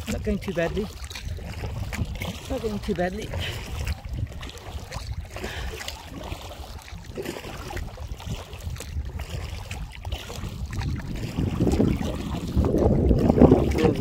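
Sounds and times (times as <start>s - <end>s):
waves lapping against kayak hull: 0.0s - 14.0s
wind buffeting microphone: 0.0s - 14.0s.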